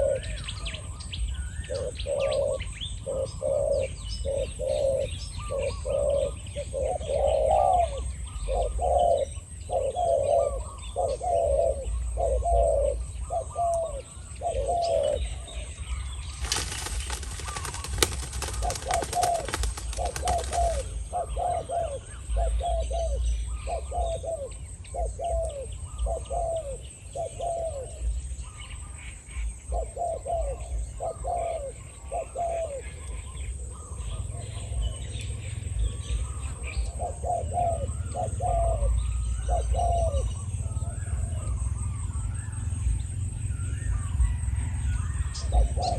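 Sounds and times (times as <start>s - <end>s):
doves cooing: 0.0s - 0.9s, 1.6s - 28.3s, 29.7s - 43.1s, 43.9s - 45.9s.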